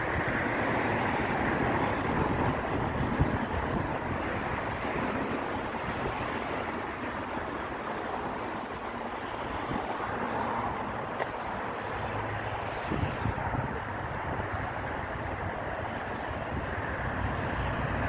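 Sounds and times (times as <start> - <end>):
outdoor rushing noise: 0.0 - 18.0
wind buffeting microphone: 0.0 - 18.0.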